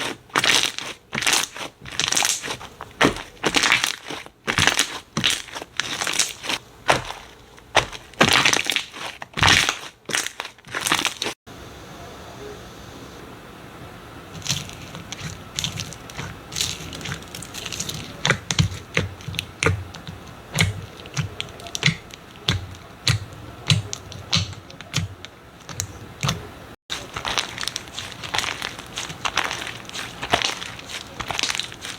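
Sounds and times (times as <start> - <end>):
slime clicking and crackling: 0.0 - 11.4, 14.4 - 31.9.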